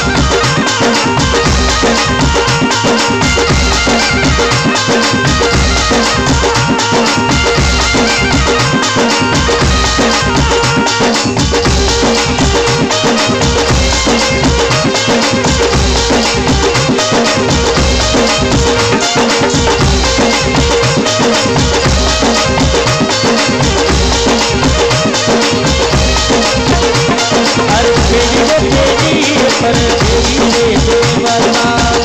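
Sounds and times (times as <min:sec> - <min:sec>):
drums beating: 0:00.0 - 0:32.0.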